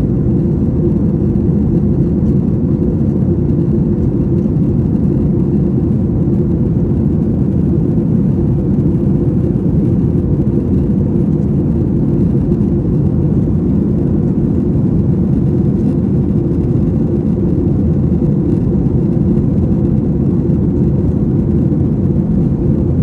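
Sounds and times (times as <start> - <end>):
jet engine and airflow rush: 0.0 - 23.0.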